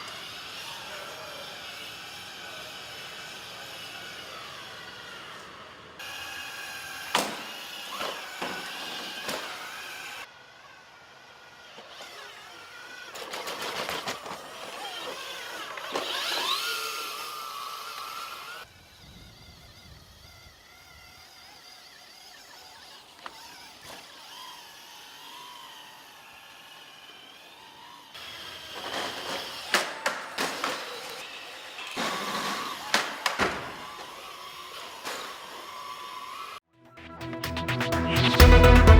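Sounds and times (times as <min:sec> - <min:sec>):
servo-like whining tones: 0:00.0 - 0:38.7.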